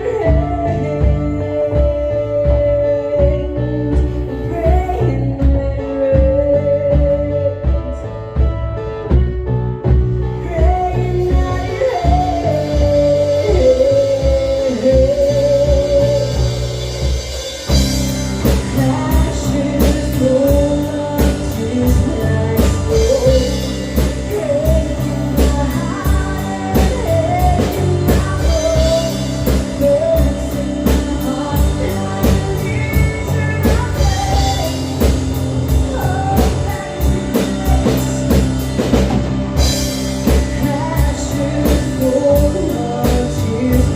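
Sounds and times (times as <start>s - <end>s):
rock song with lead vocal: 0.0s - 43.9s.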